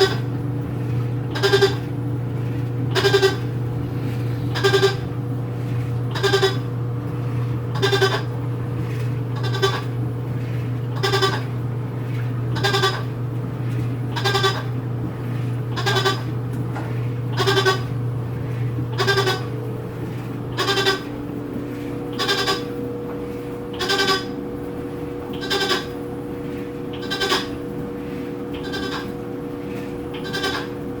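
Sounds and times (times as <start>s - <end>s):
low motor hum: 0.0s - 31.0s
washing machine squeak: 0.0s - 31.0s.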